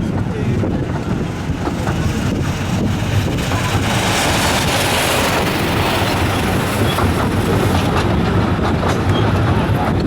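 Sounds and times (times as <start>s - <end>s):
miniature train rumbling: 0.0s - 10.0s
wind rushing across microphone: 0.0s - 10.0s.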